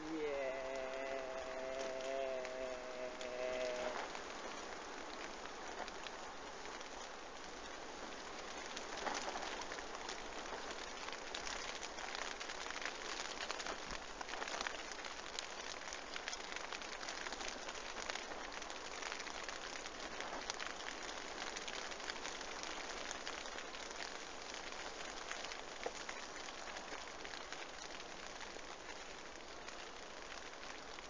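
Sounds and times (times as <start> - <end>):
rain falling on shelter: 0.0 - 31.0.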